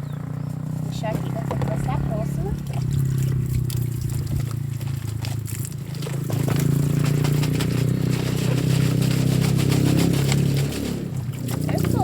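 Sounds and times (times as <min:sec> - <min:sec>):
scrubbing a plastic bottle: 0:01.1 - 0:12.0.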